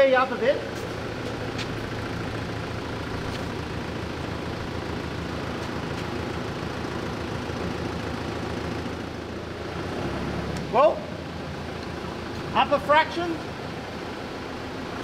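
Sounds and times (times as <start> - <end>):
forklift engine idling: 0.0 - 15.0.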